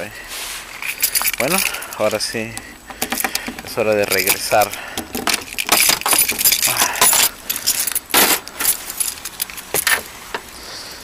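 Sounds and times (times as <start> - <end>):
handling clicks rattles and rustles: 0.7 - 10.6.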